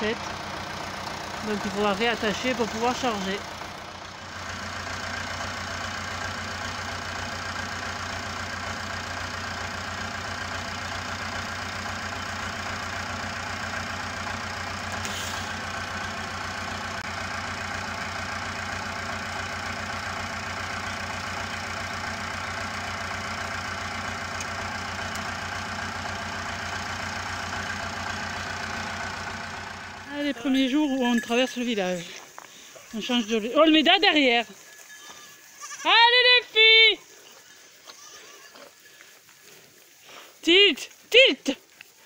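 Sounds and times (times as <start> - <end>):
tractor engine idling: 0.0 - 42.0.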